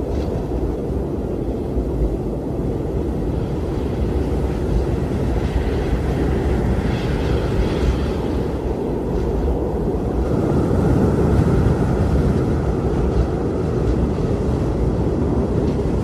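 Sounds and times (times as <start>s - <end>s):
strong wind blowing: 0.0s - 16.0s.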